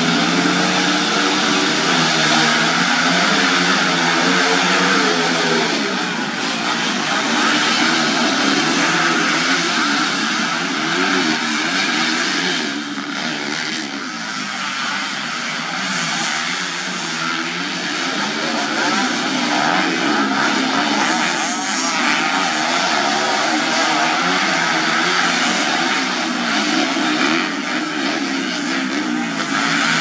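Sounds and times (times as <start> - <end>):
motorcycle engines racing: 0.0 - 30.0.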